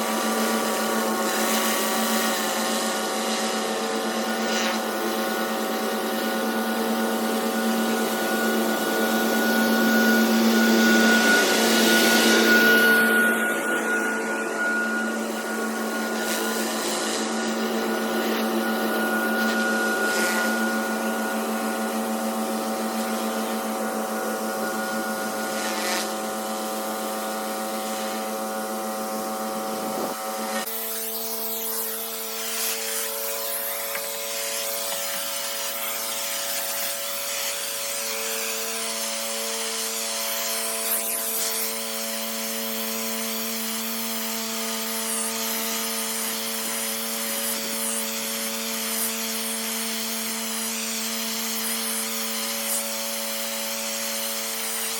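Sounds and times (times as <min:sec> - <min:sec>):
water jet spraying concrete: 0:00.0 - 0:28.6, 0:30.0 - 0:54.9
pressure washer humming: 0:00.0 - 0:54.9.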